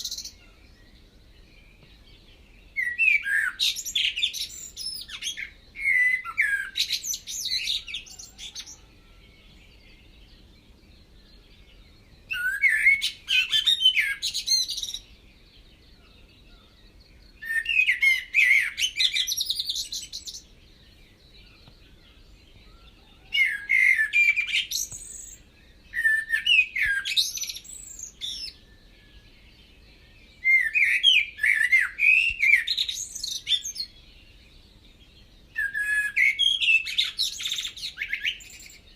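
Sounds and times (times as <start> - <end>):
bird warbling and chirping: 0.0 - 38.9.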